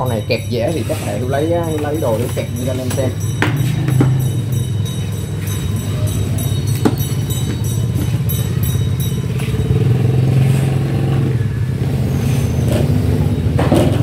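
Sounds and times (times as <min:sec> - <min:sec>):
low engine-like drone: 0:00.0 - 0:14.0.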